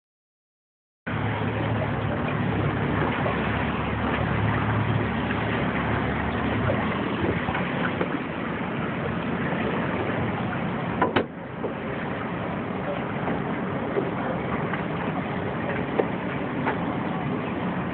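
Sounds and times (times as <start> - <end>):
boat motor running: 1.1 - 17.9
low hum: 1.1 - 17.9
wind and water rushing: 1.1 - 17.9.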